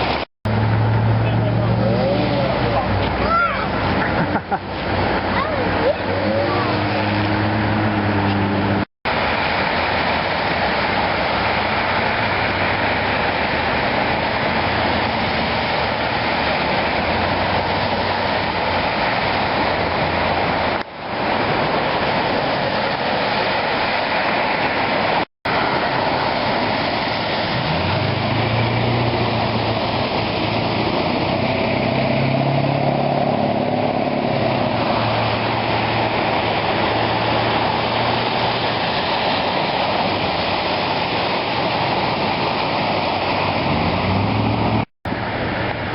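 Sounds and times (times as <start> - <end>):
floodwater rushing: 0.0 - 45.9.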